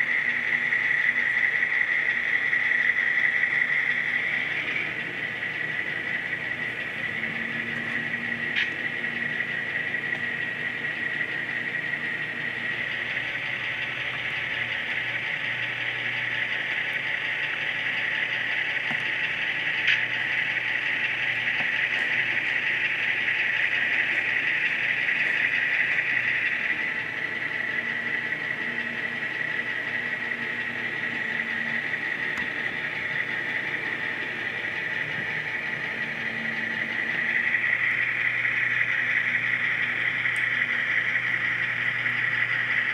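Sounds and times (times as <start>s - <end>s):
low hum: 0.0s - 42.9s
model locomotive whirring hiss: 0.0s - 42.9s.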